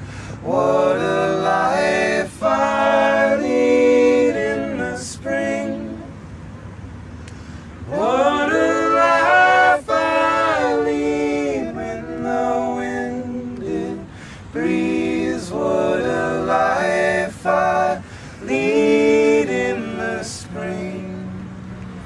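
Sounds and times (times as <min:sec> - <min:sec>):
voices singing a cappella: 0:00.0 - 0:06.4, 0:07.4 - 0:21.8.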